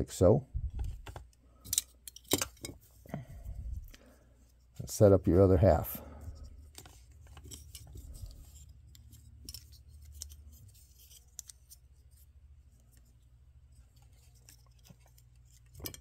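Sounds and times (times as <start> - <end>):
plastic parts clicking and rubbing: 0.6 - 4.9, 6.2 - 16.0.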